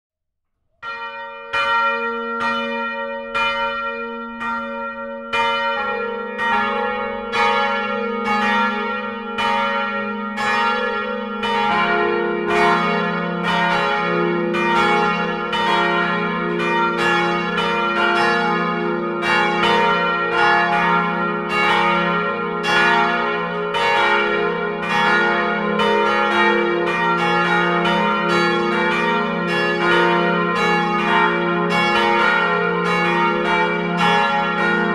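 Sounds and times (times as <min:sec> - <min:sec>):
church bells ringing: 0:00.8 - 0:34.9.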